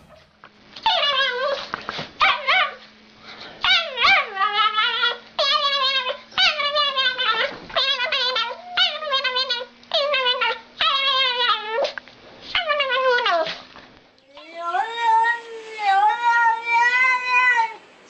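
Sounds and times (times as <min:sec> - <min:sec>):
dog whining and yowling: 0:00.0 - 0:02.8, 0:03.6 - 0:13.5, 0:14.3 - 0:17.8.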